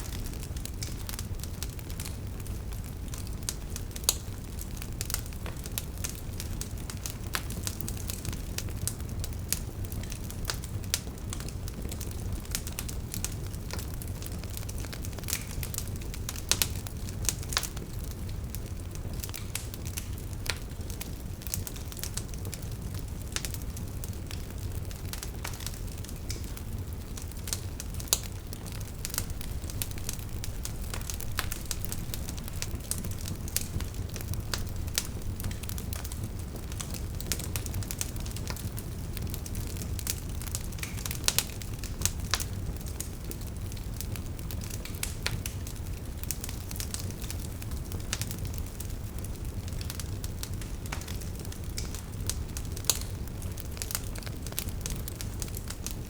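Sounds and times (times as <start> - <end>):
low fire rumble: 0.0 - 56.0
wood fire crackling and popping: 0.0 - 56.0.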